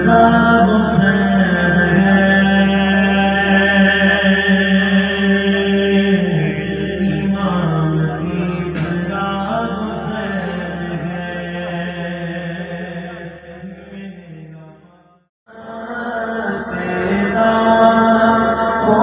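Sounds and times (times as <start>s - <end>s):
man chanting through microphone: 0.0s - 19.0s.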